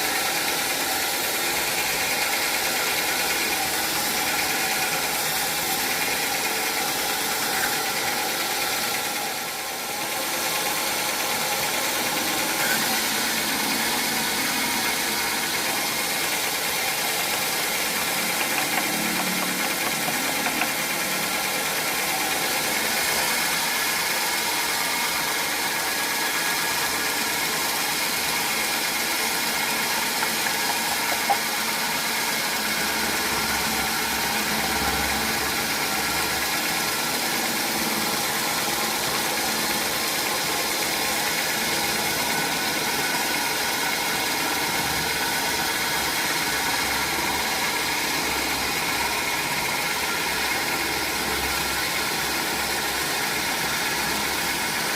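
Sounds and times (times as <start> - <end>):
sawmill machinery hissing and humming: 0.0 - 54.9.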